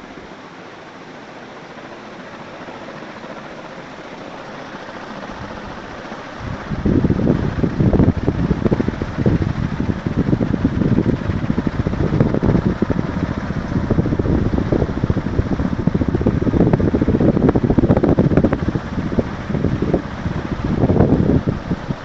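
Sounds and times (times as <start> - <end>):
ceiling fan running: 0.0 - 22.0.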